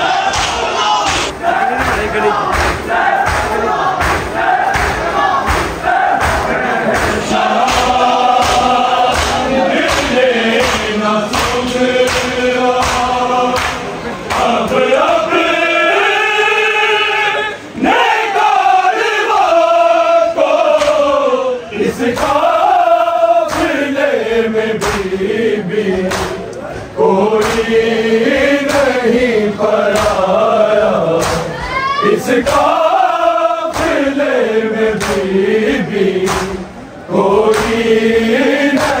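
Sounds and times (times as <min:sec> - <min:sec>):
men chanting in chorus: 0:00.0 - 0:39.0.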